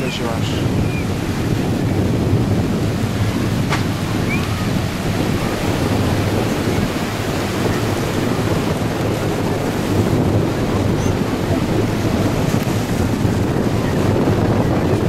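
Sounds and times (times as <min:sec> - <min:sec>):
small waves breaking on beach: 0:00.0 - 0:15.0
wind buffeting microphone: 0:00.0 - 0:15.0.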